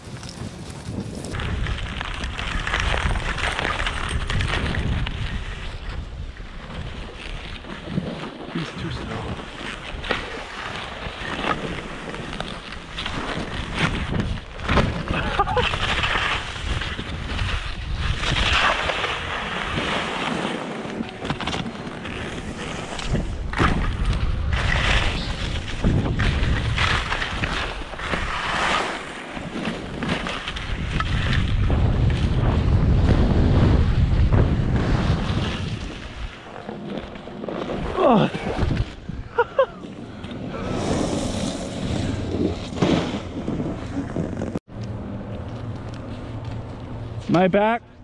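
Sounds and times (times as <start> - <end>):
wind buffeting microphone: 0.0 - 7.8, 8.8 - 28.4, 29.3 - 36.6, 37.5 - 44.7
skis scraping over snow: 0.0 - 44.6.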